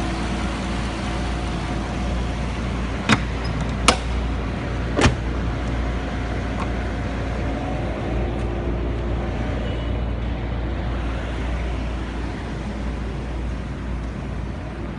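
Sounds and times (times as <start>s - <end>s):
car engine running steadily: 0.0s - 14.9s.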